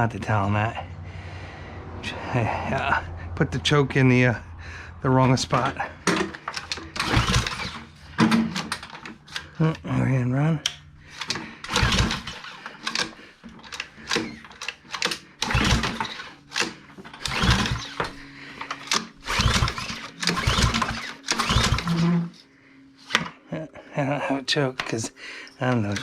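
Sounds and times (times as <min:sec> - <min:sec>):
engine pull-started: 0:01.2 - 0:09.9, 0:10.7 - 0:23.2, 0:25.6 - 0:26.0.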